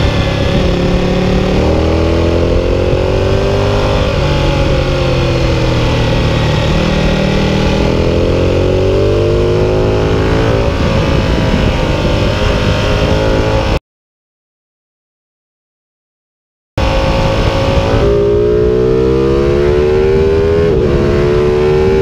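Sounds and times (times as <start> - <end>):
motorcycle engine revving: 0.0 - 13.8, 16.8 - 22.0.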